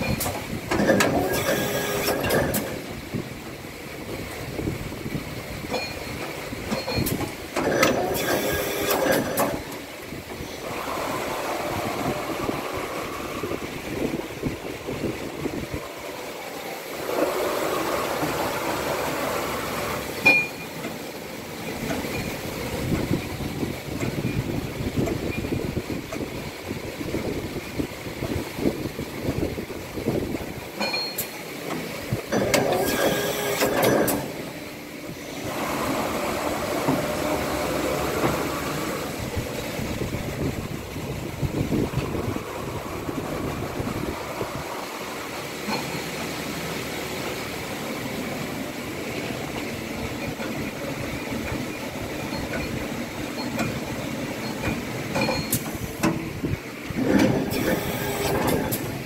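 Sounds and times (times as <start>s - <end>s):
cnc machine whining and rumbling: 0.0s - 59.0s.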